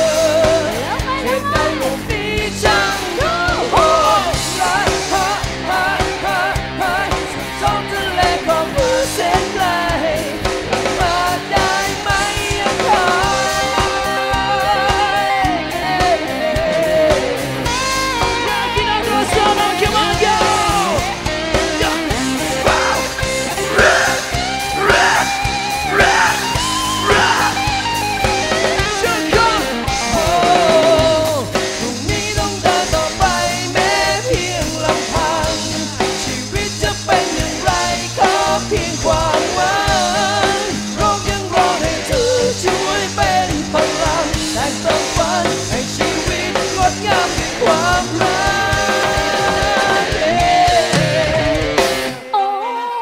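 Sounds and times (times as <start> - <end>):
bass guitar: 0.0 - 52.3
drums: 0.0 - 53.0
electric guitar: 0.0 - 53.0.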